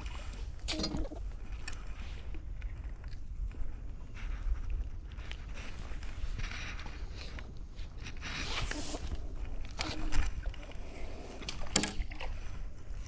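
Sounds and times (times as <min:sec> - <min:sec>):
fishing gear rustling and scraping: 0:00.0 - 0:13.0.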